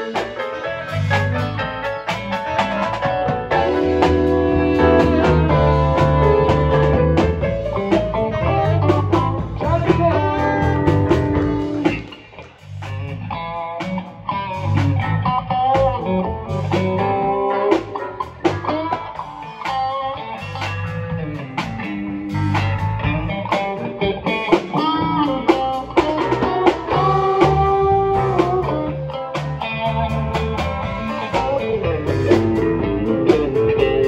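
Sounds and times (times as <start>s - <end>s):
bass guitar low notes: 0.0s - 34.0s
electric guitar lead: 0.0s - 34.0s.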